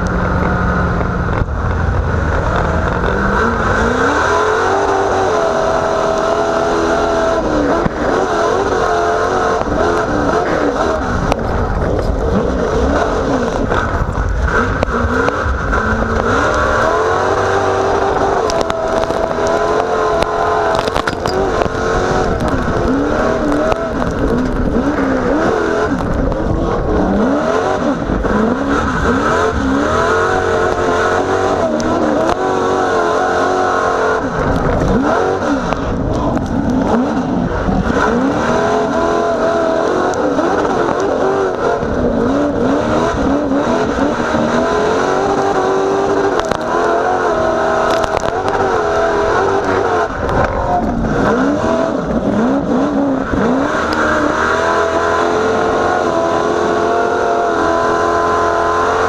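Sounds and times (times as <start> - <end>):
race truck engine revving: 0.0 - 59.0.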